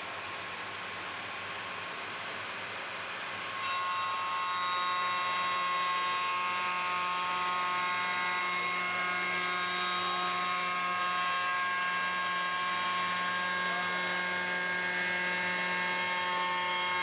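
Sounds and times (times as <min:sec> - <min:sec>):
router spindle high whine: 0:02.4 - 0:17.0
router cutting wood: 0:03.3 - 0:17.0.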